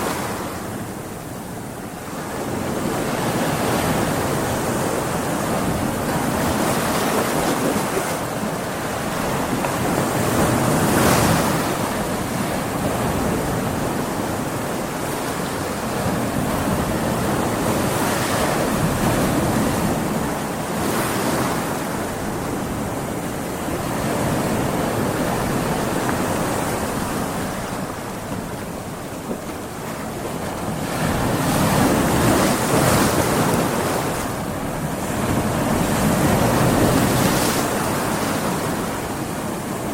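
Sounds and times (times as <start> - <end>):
waves breaking on a beach: 0.0 - 39.9
wind: 0.0 - 39.9.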